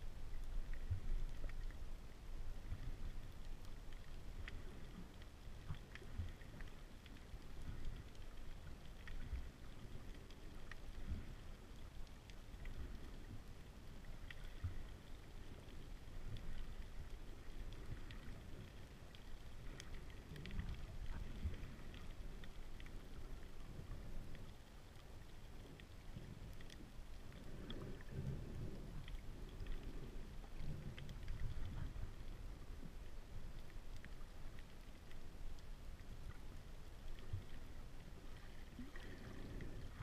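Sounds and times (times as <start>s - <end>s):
faint clicks and crackles: 0.0s - 40.0s
underwater rumble of moving water: 0.0s - 40.0s.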